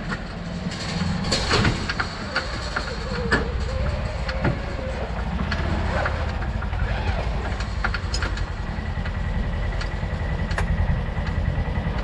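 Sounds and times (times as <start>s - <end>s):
tires knocking on wooden boards: 0.0s - 12.0s
utility vehicle engine running slowly: 0.0s - 12.0s.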